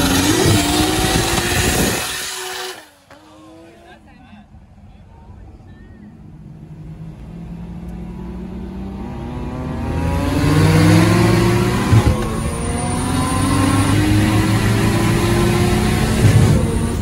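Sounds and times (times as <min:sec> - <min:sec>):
car engine accelerating hard: 0:00.0 - 0:04.1, 0:06.7 - 0:17.0.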